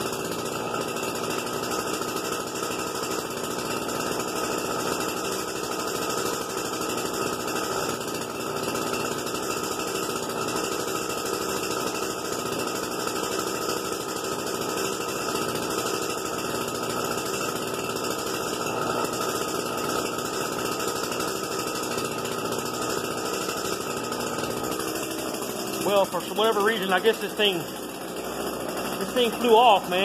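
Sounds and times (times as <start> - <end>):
small engine idling: 0.0 - 30.0.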